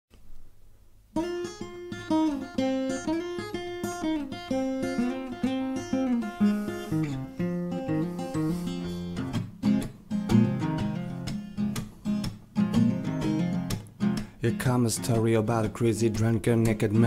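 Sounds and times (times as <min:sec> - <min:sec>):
acoustic guitar blues intro: 0:01.2 - 0:17.0.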